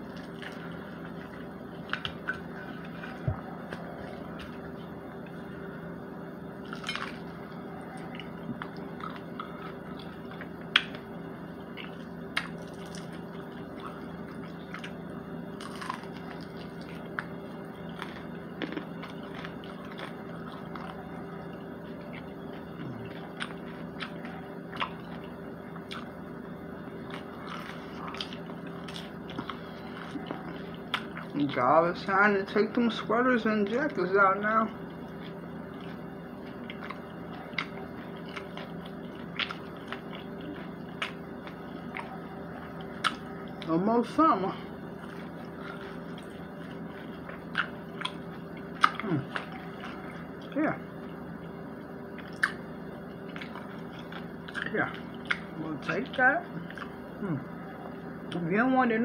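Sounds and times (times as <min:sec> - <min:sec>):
chewing: 0:00.0 - 0:05.6, 0:06.6 - 0:26.2, 0:26.8 - 0:31.4, 0:35.0 - 0:43.7, 0:44.9 - 0:50.6, 0:52.1 - 0:55.6, 0:56.5 - 0:58.4
low hum: 0:00.0 - 0:59.0.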